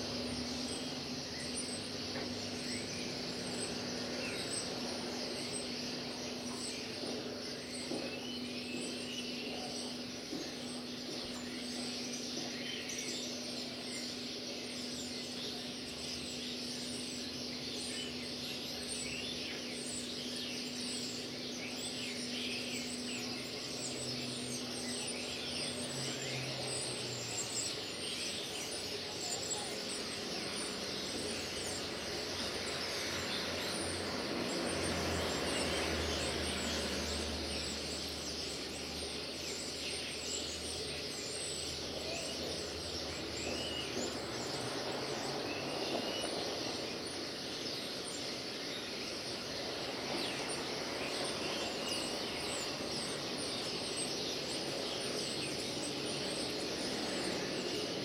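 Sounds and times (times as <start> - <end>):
birds chirping: 0.0 - 58.0
outdoor background hum: 0.0 - 58.0.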